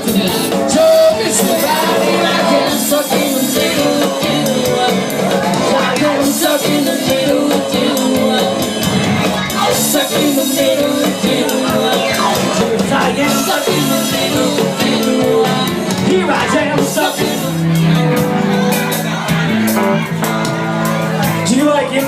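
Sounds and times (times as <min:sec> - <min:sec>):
live band playing amplified music: 0:00.0 - 0:22.0.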